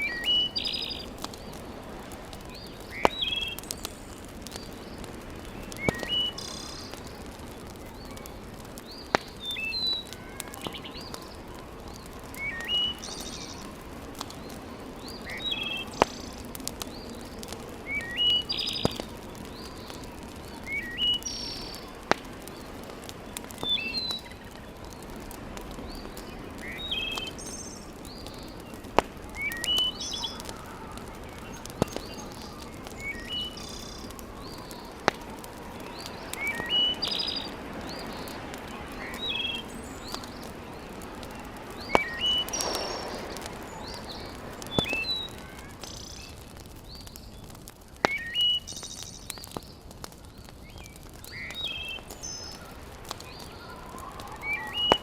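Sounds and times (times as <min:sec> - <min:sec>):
wood fire crackling: 0:00.0 - 0:55.0
songbird chirping: 0:02.4 - 0:07.3, 0:07.9 - 0:47.1, 0:50.4 - 0:55.0.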